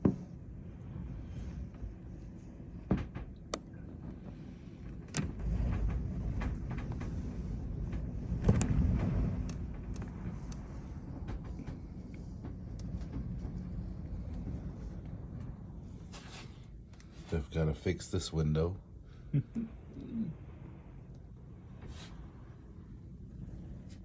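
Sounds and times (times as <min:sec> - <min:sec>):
wind buffeting window: 0:00.0 - 0:24.0.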